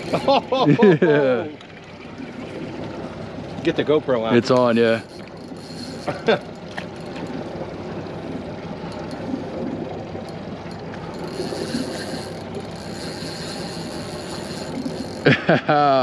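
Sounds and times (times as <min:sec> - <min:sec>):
outboard motors idling: 0:00.0 - 0:16.0.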